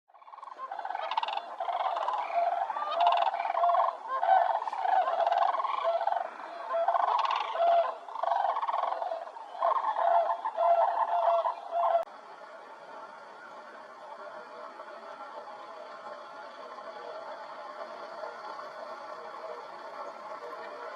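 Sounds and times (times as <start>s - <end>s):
flock of birds rattling calls: 0.2s - 20.9s.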